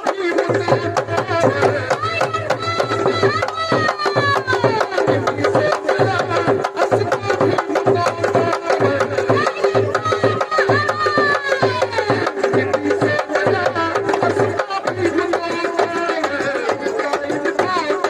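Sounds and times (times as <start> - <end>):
tabla hand drums: 0.0 - 18.0.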